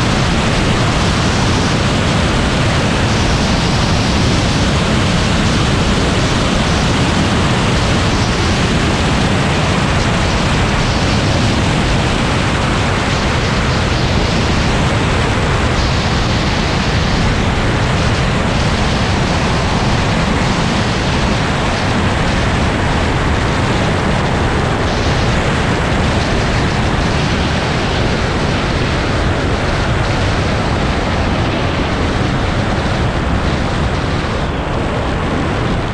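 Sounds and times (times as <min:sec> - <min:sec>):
light aircraft engine and propeller: 0:00.0 - 0:35.9
wind noise on microphone: 0:00.0 - 0:35.9.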